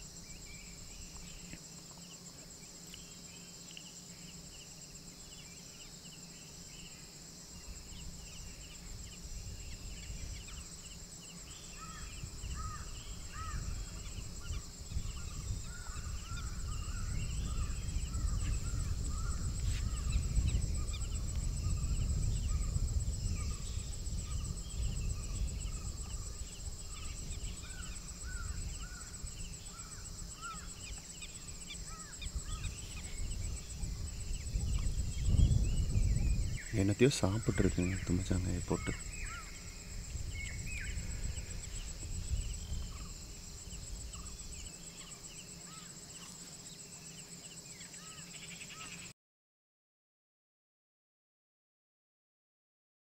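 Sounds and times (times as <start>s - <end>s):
crickets trilling: 0.0s - 49.1s.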